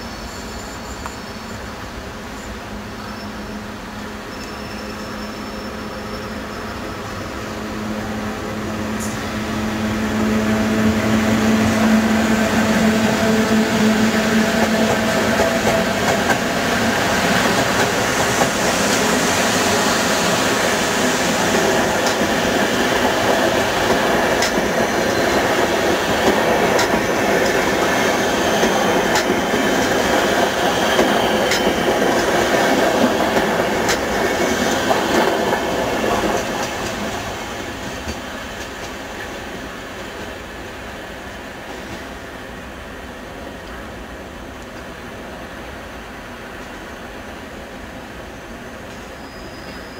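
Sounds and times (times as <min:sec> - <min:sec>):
train coaches rumbling by: 0:00.0 - 0:49.9
train hum: 0:00.0 - 0:49.9.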